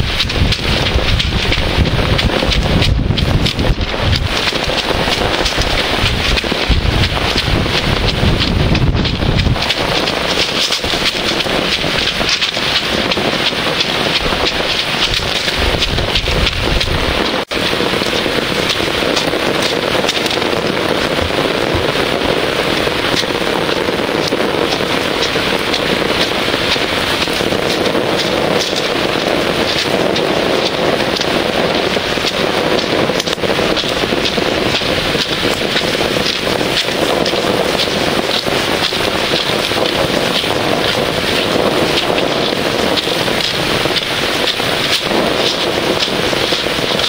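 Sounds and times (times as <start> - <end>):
heavy rain on pavement: 0.0 - 47.0
wind buffeting microphone: 0.0 - 47.0.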